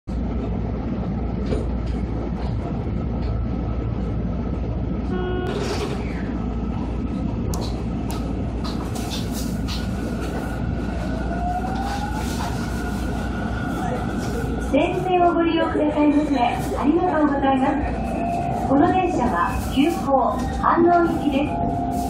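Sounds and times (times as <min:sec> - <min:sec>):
train cab low rumble: 0:00.1 - 0:22.0.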